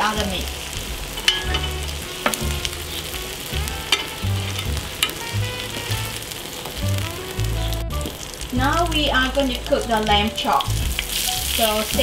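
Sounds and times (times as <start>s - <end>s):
steak sizzling on hotplate: 0.0s - 12.0s.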